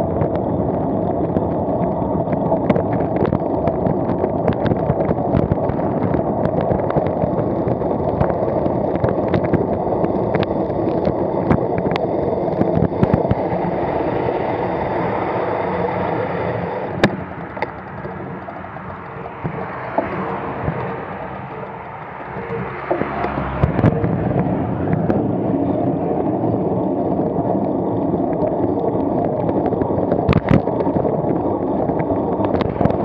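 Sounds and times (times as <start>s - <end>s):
road rumble from vehicle: 0.0s - 33.0s
wind buffeting microphone: 0.0s - 33.0s.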